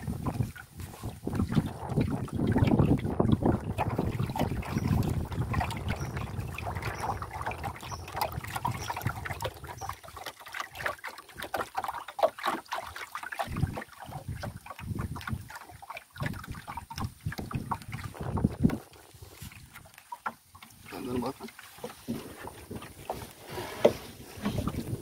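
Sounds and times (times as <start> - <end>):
wind rumbling on microphone: 0.0 - 11.6, 13.4 - 19.9, 21.9 - 25.0
knocks and clicks in canoe: 0.0 - 25.0
water splashes: 0.0 - 25.0.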